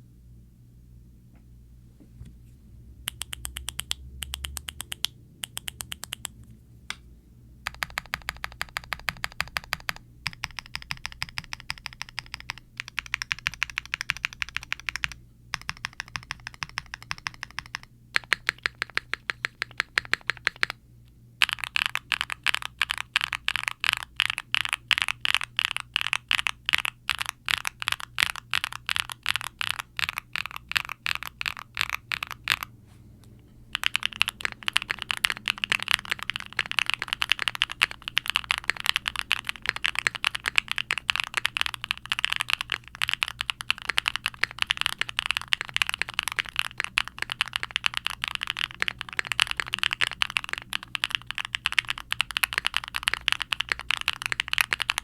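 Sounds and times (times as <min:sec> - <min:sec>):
mechanical keyboard typing: 0:03.1 - 0:06.4, 0:07.6 - 0:20.8, 0:21.4 - 0:32.7, 0:33.7 - 0:55.0.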